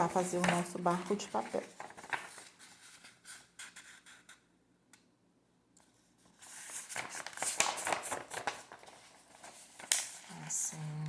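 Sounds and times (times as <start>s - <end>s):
paper rustling and crinkling: 0.0s - 4.4s, 5.9s - 10.9s.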